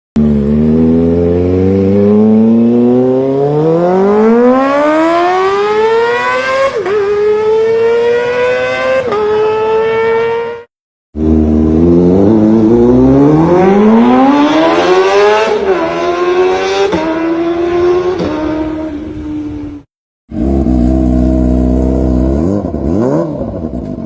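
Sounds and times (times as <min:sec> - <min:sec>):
motorcycle exhaust accelerating: 0:00.2 - 0:17.3, 0:20.3 - 0:24.0.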